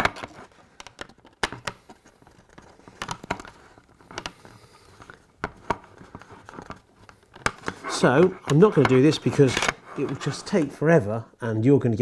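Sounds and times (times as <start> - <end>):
plastic parts clicking: 0.0 - 10.6.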